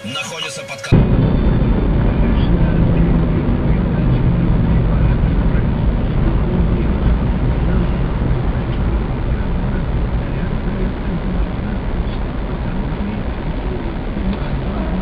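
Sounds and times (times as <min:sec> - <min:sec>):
vehicle engine rumble: 0:00.9 - 0:15.0
road noise: 0:01.0 - 0:15.0.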